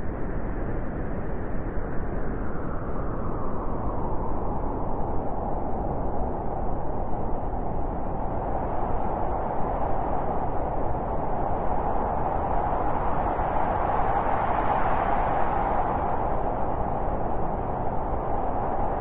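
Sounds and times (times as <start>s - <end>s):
wind blowing steadily: 0.0s - 19.0s.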